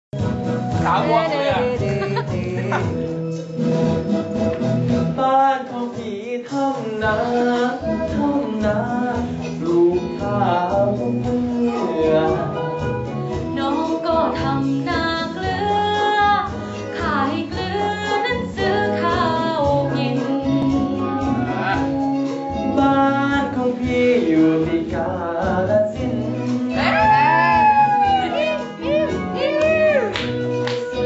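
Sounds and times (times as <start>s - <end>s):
instrumental accompaniment: 0.2s - 31.0s
woman singing into microphone: 0.8s - 3.1s, 5.0s - 21.7s, 22.6s - 30.1s.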